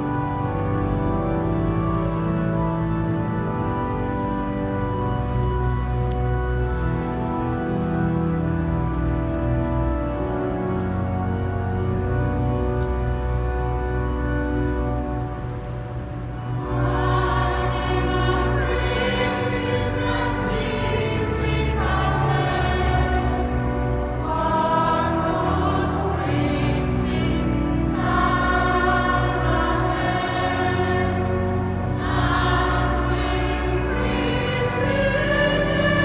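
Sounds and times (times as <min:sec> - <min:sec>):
choir singing sacred music: 0:00.0 - 0:36.0
steady low notes: 0:00.0 - 0:36.0.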